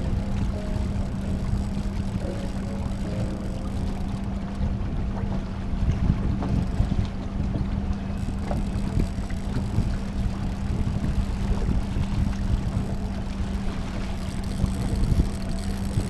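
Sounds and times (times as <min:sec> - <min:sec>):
outboard motor humming: 0:00.0 - 0:16.0
wind noise on microphone: 0:00.0 - 0:16.0.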